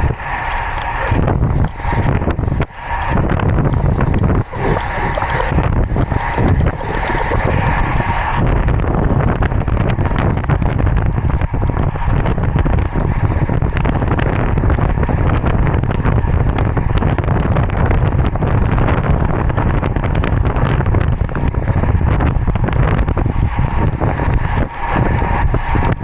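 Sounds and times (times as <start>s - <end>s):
bike tyres rumbling on asphalt: 0.0s - 26.0s
wind buffeting microphone: 0.0s - 26.0s.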